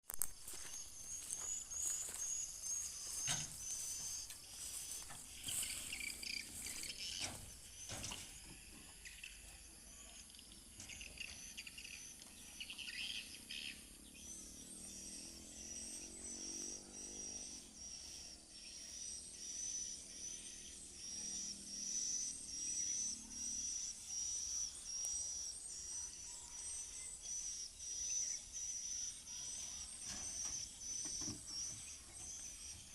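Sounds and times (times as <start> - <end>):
insects chirping: 0.1 - 32.9.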